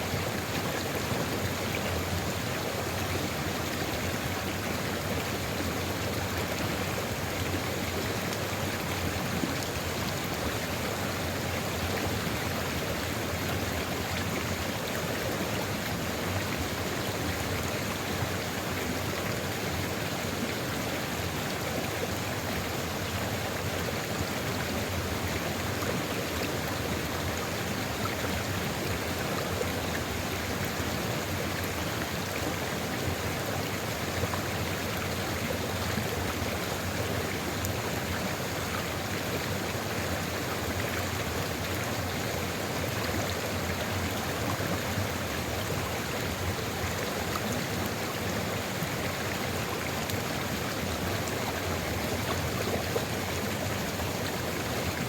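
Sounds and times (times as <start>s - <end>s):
river water rushing and gurgling: 0.0s - 55.0s.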